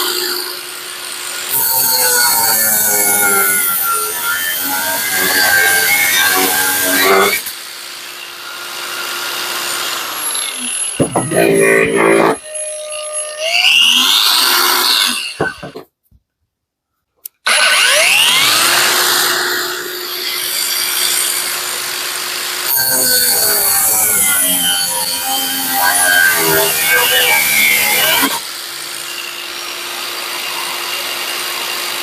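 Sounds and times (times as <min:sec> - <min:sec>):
angle grinder grinding: 0:00.0 - 0:15.9, 0:17.2 - 0:32.0.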